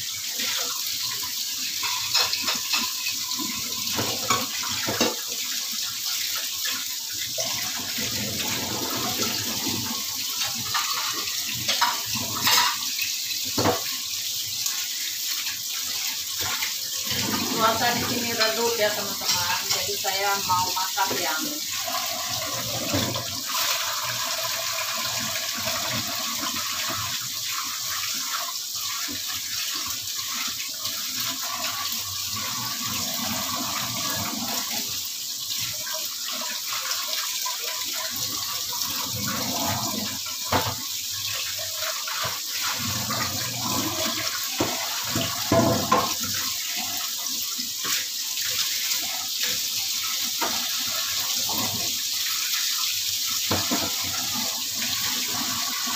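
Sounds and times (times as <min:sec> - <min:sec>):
fish frying in hot oil: 0:00.0 - 0:55.9.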